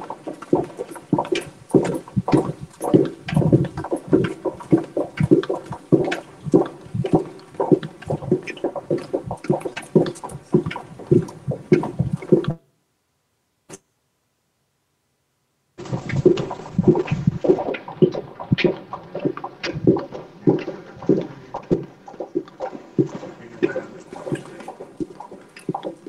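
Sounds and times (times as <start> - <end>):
footsteps on hard floor: 0.0 - 12.6, 15.8 - 26.0.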